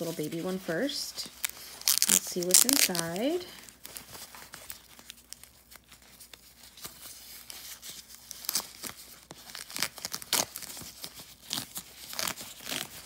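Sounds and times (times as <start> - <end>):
tissue paper crinkling and tearing: 0.0 - 13.0.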